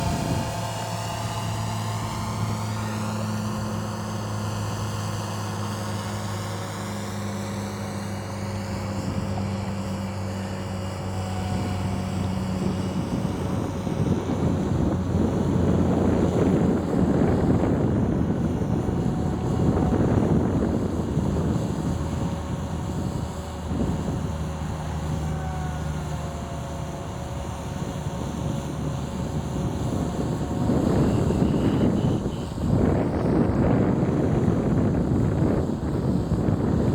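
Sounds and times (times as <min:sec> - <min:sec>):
model airplane engine droning: 0:00.0 - 0:36.9.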